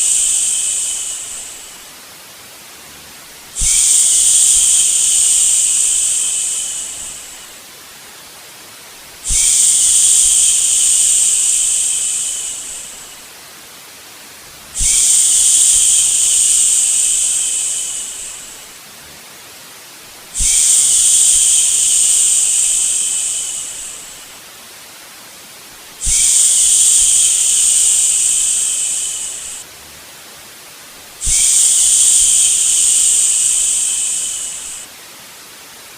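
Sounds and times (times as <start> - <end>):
soft white-noise hiss: 0.0 - 35.9.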